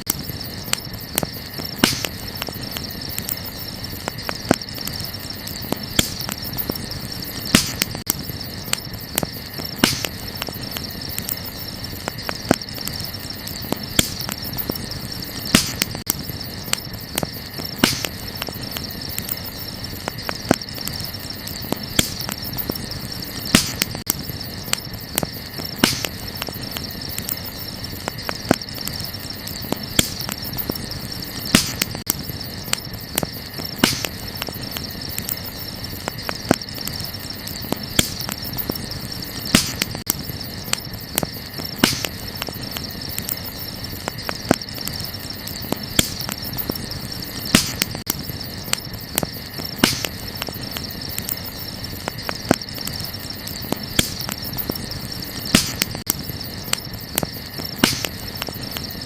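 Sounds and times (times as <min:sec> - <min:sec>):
burning wood crackling: 0:00.0 - 0:59.0
crickets chirring: 0:00.0 - 0:59.0.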